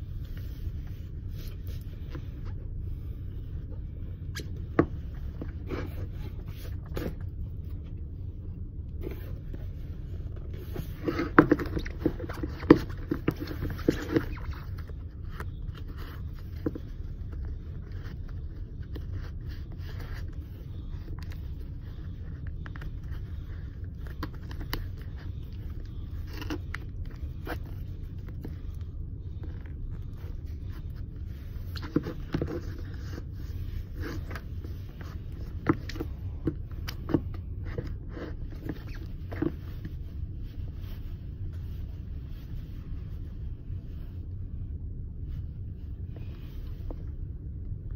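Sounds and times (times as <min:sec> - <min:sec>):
shoelaces rustling and scraping: 0:00.0 - 0:44.4
steady low hum: 0:00.0 - 0:47.9.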